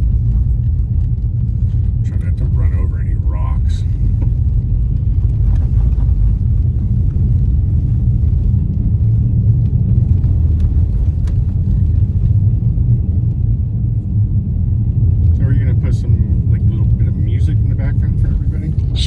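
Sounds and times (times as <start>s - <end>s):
car tyres rumbling on snow: 0.0s - 19.0s.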